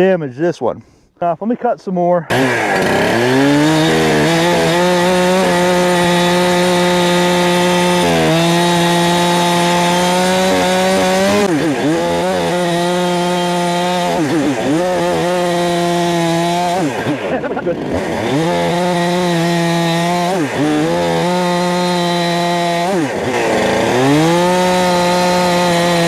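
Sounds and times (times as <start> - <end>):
chainsaw cutting wood: 2.3 - 26.0.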